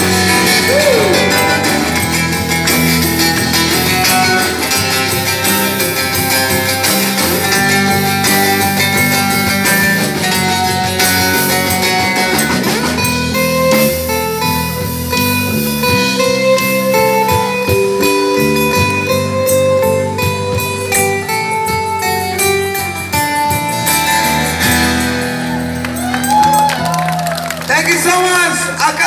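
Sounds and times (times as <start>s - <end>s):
live band guitar instrumental: 0.0s - 29.0s.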